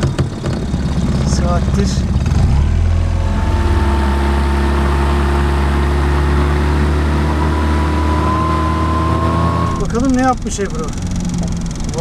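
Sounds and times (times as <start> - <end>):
outboard motor running: 0.0 - 12.0
boat wake rushing: 0.5 - 12.0.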